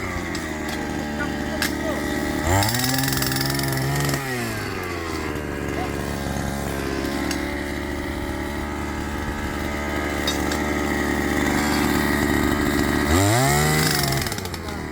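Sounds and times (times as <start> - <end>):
engine revving whine: 0.0 - 14.9
petrol engine breaker running: 0.0 - 14.9.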